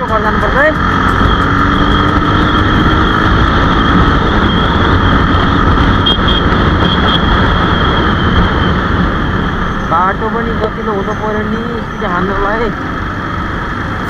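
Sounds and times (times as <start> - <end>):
road and wind noise: 0.0 - 14.0
vehicle engine running: 0.0 - 14.0.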